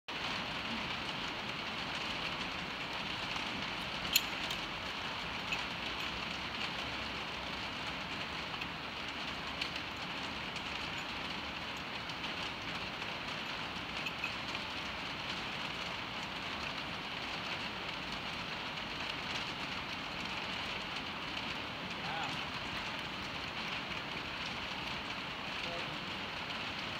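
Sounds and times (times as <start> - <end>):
rain on a metal roof: 0.1 - 26.9.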